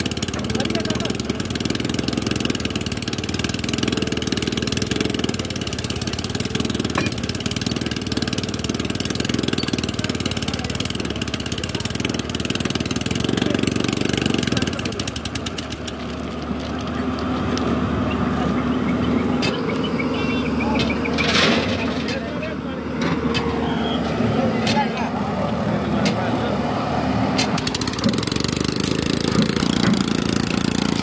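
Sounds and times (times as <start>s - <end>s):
drilling machine engine running: 0.0s - 31.0s.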